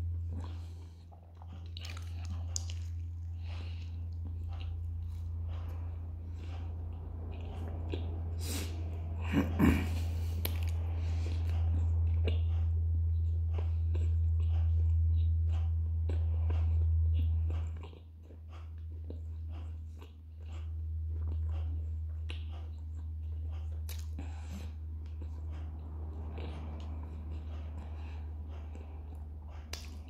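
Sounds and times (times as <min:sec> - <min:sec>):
low hum: 0:00.0 - 0:30.0
wet chewing mouth clicks: 0:00.2 - 0:08.8, 0:09.8 - 0:30.0.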